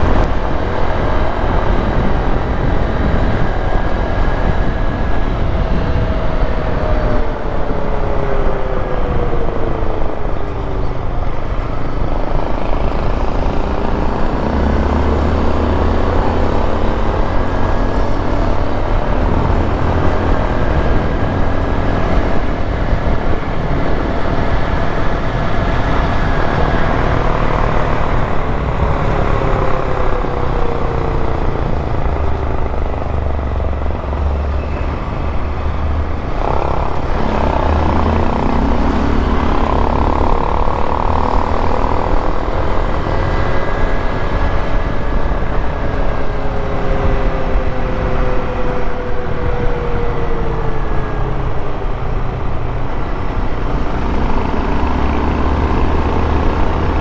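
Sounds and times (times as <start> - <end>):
motorcycle engine running: 0.0 - 48.8.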